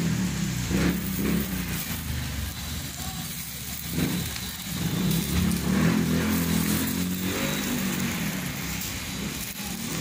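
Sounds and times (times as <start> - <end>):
fat sizzling on charcoal: 0.0 - 10.0
vehicle engine humming: 0.0 - 10.0.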